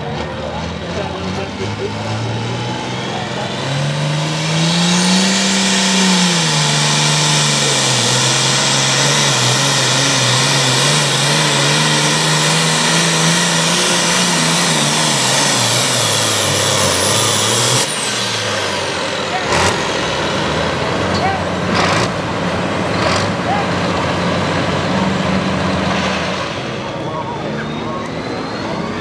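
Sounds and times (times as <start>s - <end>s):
diesel engine at full throttle: 0.0s - 29.0s.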